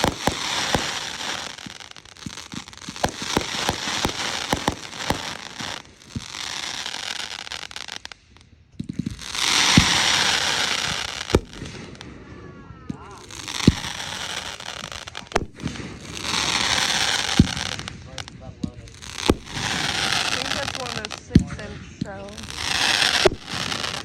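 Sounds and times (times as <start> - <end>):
fireworks crackling: 0.0 - 24.0
fireworks popping: 0.0 - 24.0
loud fireworks bangs: 0.0 - 24.0.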